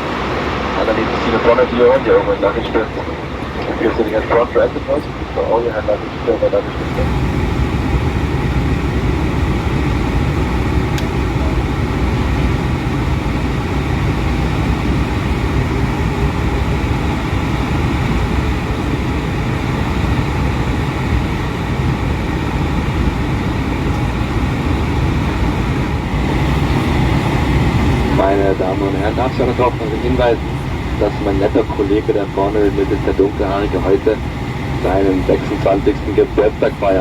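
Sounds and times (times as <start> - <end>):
airplane cabin noise: 0.0 - 37.0.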